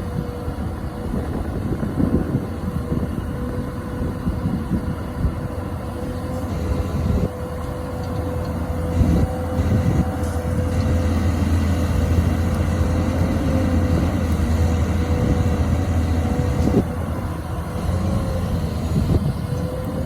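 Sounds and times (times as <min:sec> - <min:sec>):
excavator diesel engine: 0:00.0 - 0:20.0.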